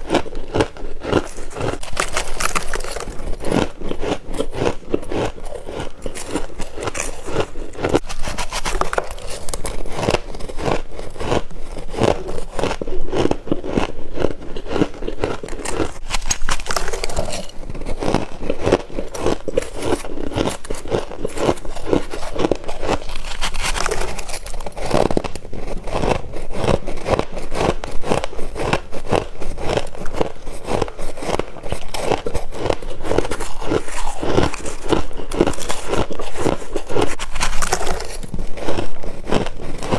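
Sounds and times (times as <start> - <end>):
frost being crunched and chewed: 0.0 - 39.9.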